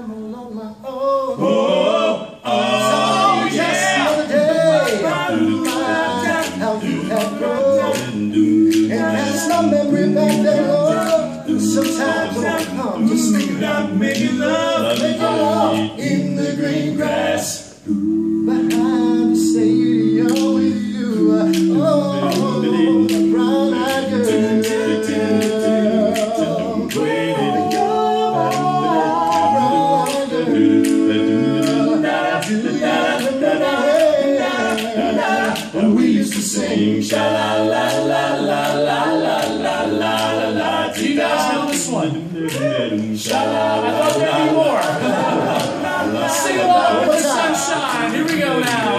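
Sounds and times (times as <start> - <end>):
male voices singing in harmony: 0.0 - 48.9.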